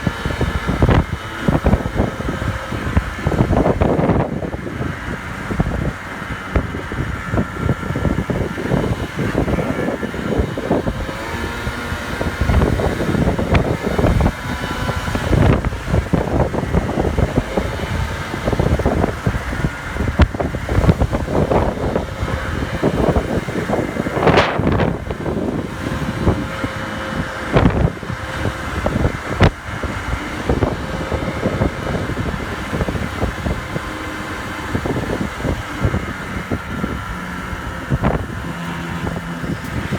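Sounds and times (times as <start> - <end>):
moped engine whine: 0.0 - 39.9
wind buffeting on microphone: 0.0 - 39.9.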